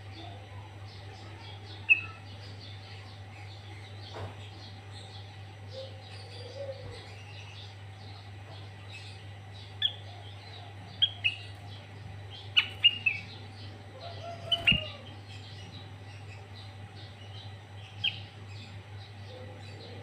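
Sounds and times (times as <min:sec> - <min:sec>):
steady low hum: 0:00.0 - 0:20.0
bird chirping: 0:00.2 - 0:20.0.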